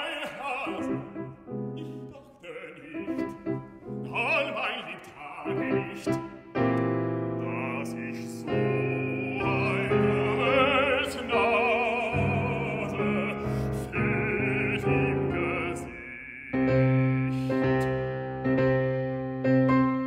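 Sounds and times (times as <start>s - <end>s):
baritone singing: 0.0s - 18.8s
piano accompaniment: 0.0s - 20.0s.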